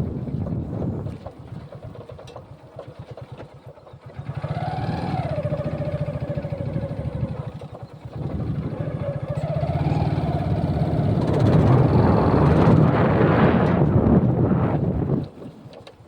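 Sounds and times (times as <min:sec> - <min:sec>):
engine running with whine: 0:00.0 - 0:16.0.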